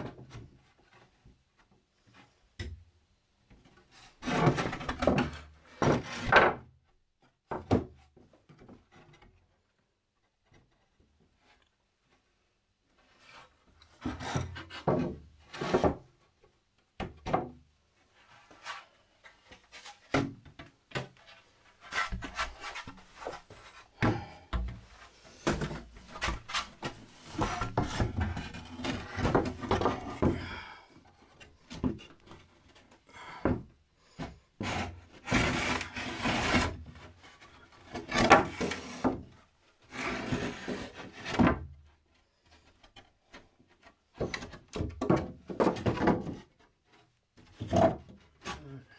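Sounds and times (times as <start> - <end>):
wooden boards scraping and knocking: 3.9 - 9.6, 13.2 - 16.1, 18.2 - 48.9.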